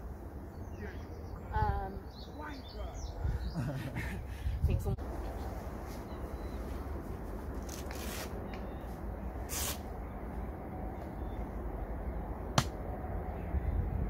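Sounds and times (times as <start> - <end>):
low wind rumble on microphone: 0.0 - 7.6, 8.6 - 14.0.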